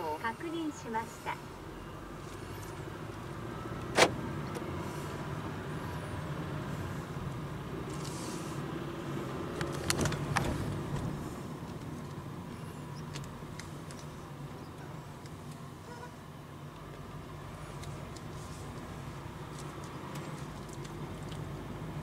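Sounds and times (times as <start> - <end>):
car engine and road hum: 0.0 - 22.0.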